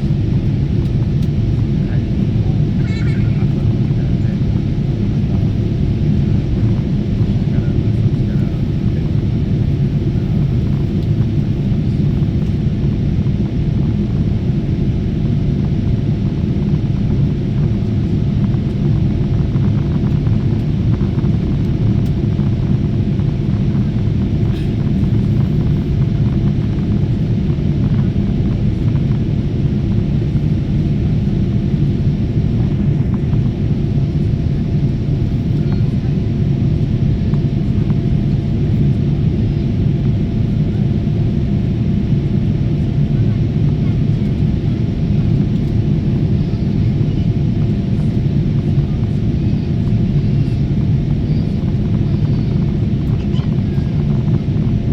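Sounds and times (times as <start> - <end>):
jet cabin low rumble: 0.0 - 54.9.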